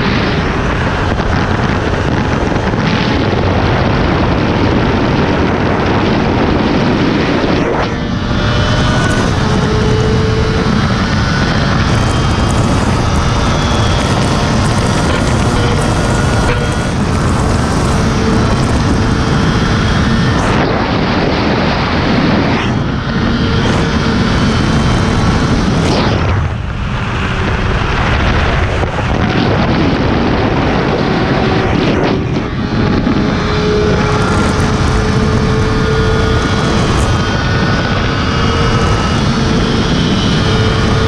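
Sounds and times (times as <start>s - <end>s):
motorcycle engine drone: 0.0s - 41.0s
wind noise on microphone: 0.0s - 41.0s.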